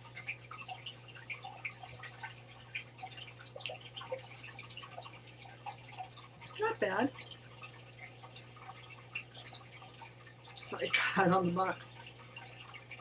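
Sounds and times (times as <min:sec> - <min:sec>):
water dripping: 0:00.0 - 0:13.0.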